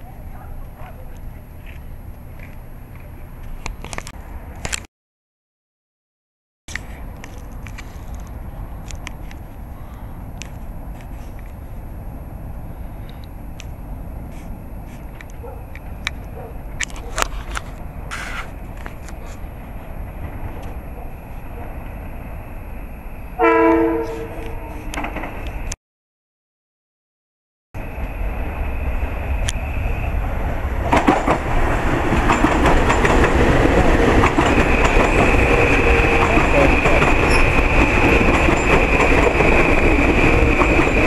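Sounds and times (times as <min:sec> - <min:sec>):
train rumble: 0:00.0 - 0:04.6, 0:06.7 - 0:25.8, 0:27.8 - 0:41.0.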